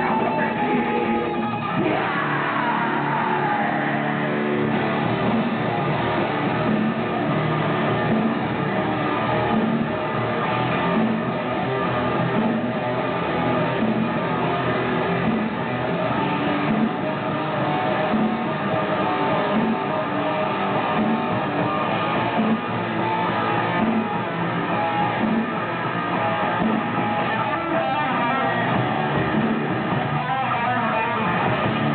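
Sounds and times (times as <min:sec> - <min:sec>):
bass guitar: 0:00.0 - 0:31.9
strummed electric guitar: 0:00.0 - 0:31.9.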